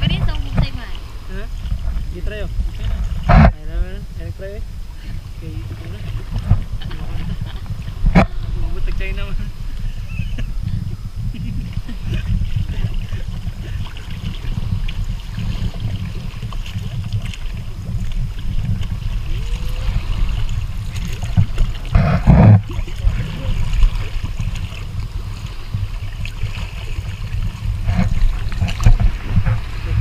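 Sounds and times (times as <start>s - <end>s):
kayak paddles dipping: 0.0s - 30.0s
low rumble: 0.0s - 30.0s
water sloshing around kayak: 0.0s - 30.0s.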